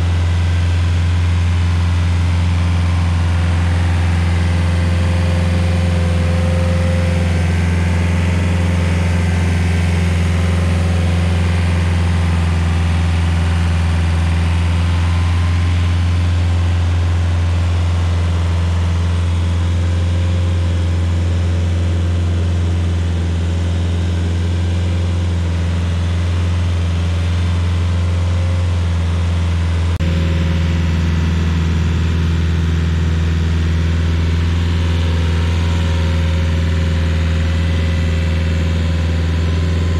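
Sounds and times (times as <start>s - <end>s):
stump grinder engine droning: 0.0s - 39.9s.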